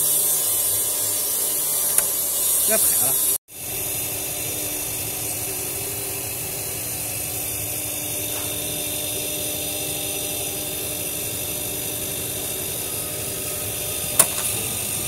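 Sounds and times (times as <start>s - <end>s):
factory machinery running: 0.0s - 15.0s.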